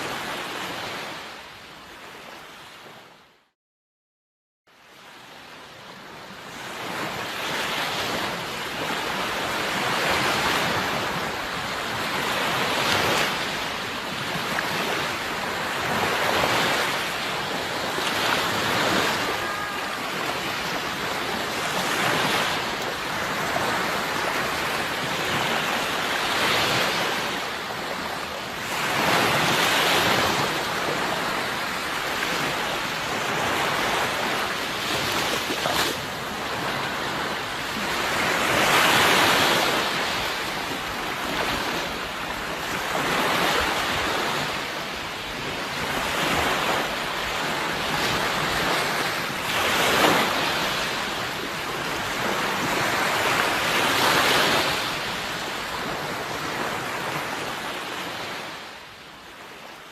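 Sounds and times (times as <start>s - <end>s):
sea waves washing: 6.8s - 58.7s.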